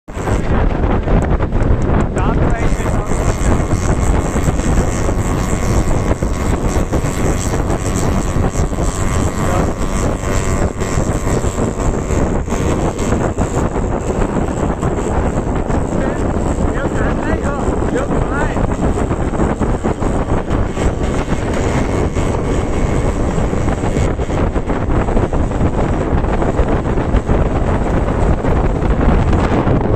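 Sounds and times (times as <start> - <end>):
two-stroke engine running: 0.1 - 29.9.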